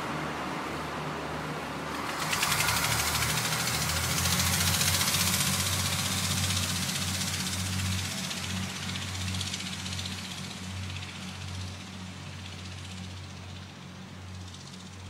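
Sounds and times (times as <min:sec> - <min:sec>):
diesel train engines running: 0:00.0 - 0:15.0.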